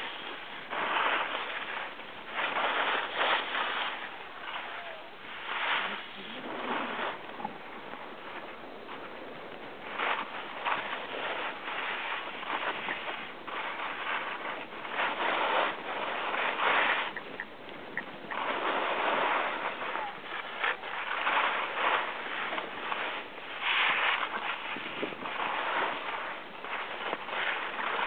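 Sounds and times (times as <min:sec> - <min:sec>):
skis scraping over snow: 0:00.0 - 0:28.0.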